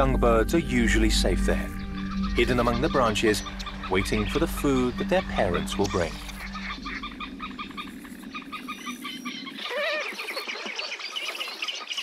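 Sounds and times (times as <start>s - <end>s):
upward sweeping call: 0.0s - 10.0s
bird chicks begging calls: 1.5s - 12.0s.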